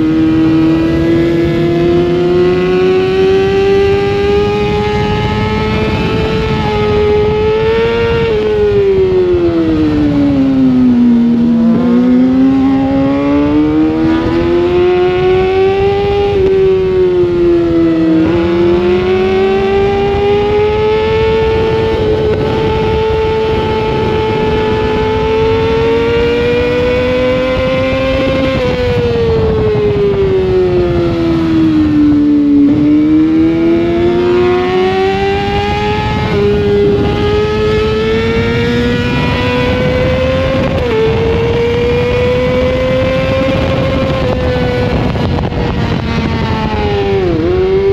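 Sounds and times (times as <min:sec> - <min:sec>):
motorcycle engine revving high: 0:00.0 - 0:47.9
wind rushing: 0:00.0 - 0:47.9.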